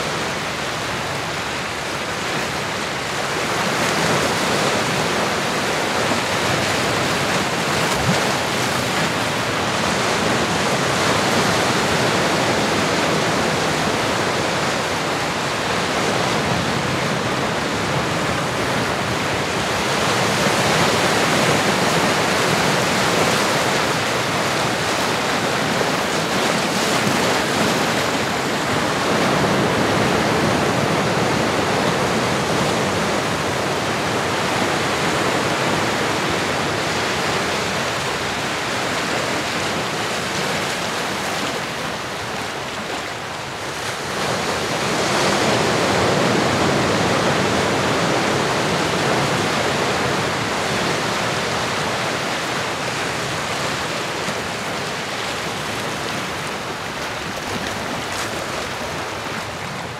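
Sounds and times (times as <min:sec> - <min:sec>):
ocean surf washing: 0:00.0 - 0:59.9.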